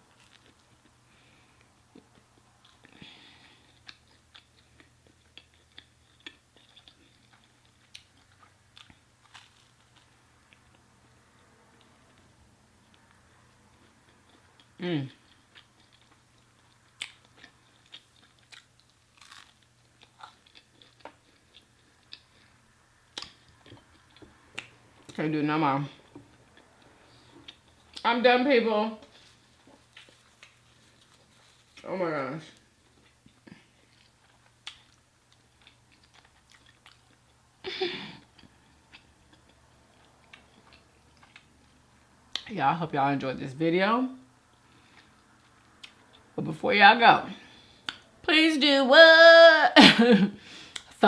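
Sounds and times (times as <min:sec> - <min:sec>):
close-miked chewing of food: 0:00.0 - 0:25.2, 0:25.9 - 0:28.1, 0:29.0 - 0:31.8, 0:32.5 - 0:42.5, 0:44.4 - 0:46.4.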